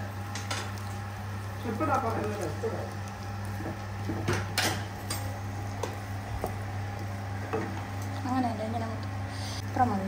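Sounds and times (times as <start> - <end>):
light sizzle: 0.0 - 10.0
steady low hum: 0.0 - 10.0.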